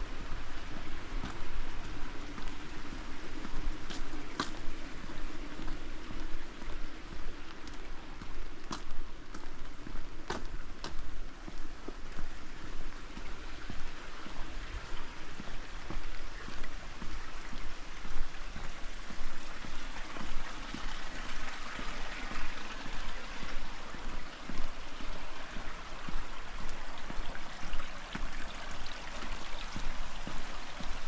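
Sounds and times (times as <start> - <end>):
rain falling: 0.0 - 31.0
running water: 0.0 - 31.0.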